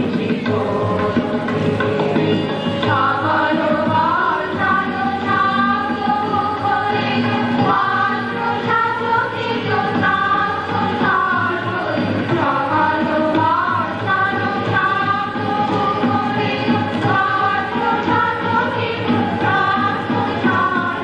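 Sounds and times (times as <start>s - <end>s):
group singing in unison: 0.0s - 21.0s
musical accompaniment: 0.0s - 21.0s.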